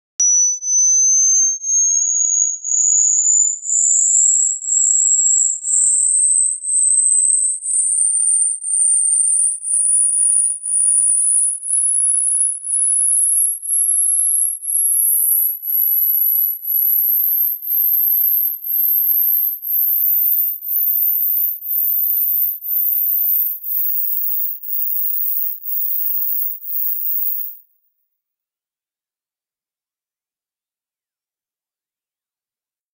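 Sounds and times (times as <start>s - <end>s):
rising sine test tone: 0.2s - 27.6s.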